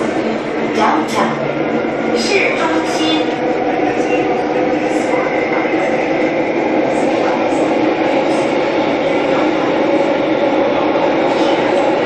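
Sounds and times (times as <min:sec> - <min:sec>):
metro car rumbling in tunnel: 0:00.0 - 0:12.0.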